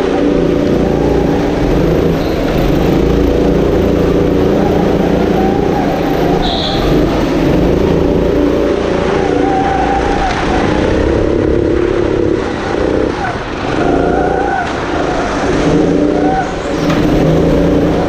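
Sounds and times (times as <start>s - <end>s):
go-kart engine revving: 0.0s - 18.0s.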